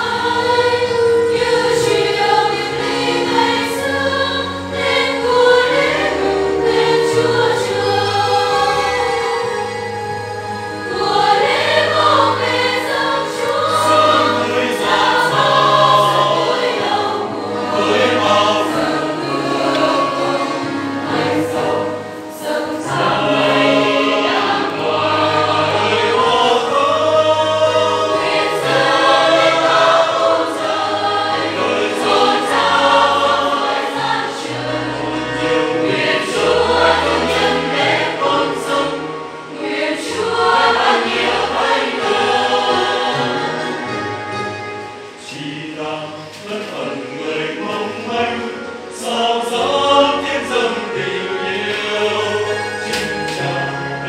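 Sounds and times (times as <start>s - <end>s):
church choir singing a hymn: 0.0s - 54.0s.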